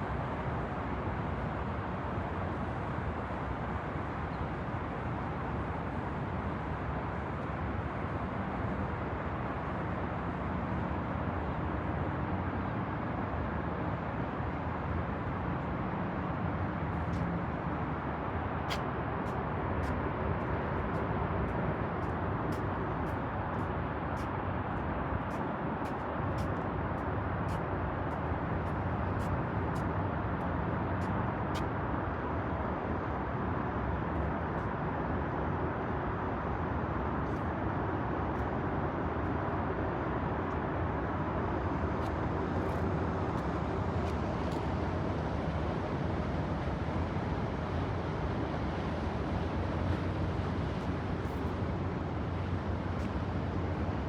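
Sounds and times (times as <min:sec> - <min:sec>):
road traffic hum: 0:00.0 - 0:54.0.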